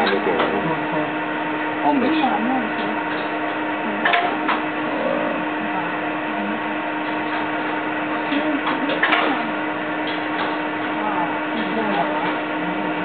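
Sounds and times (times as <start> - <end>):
elevator mechanical hum: 0.0 - 13.0.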